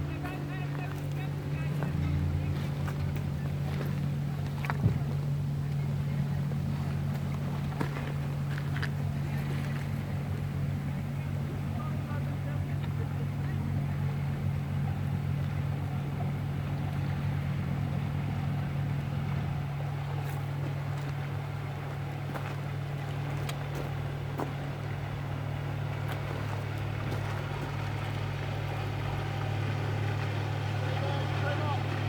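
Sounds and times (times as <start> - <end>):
engine droning: 0.0 - 32.0.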